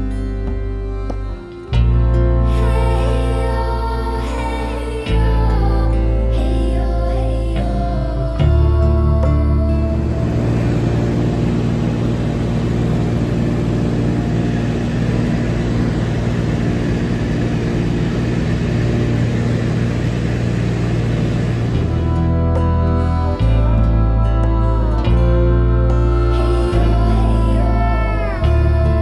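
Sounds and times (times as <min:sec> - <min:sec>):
seaplane engine and propeller: 0:00.0 - 0:29.0.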